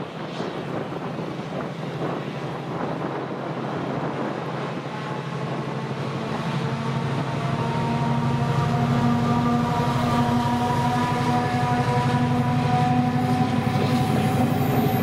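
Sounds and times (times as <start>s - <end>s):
diesel locomotives passing: 0.0s - 15.0s.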